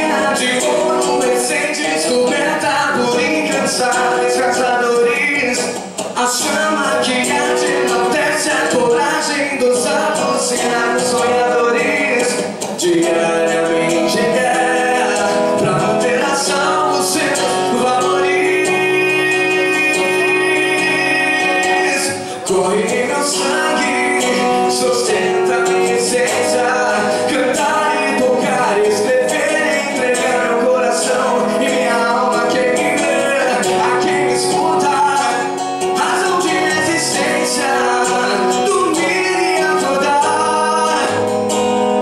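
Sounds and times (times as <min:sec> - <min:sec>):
acoustic guitar: 0:00.0 - 0:42.0
man singing into microphone: 0:00.0 - 0:42.0.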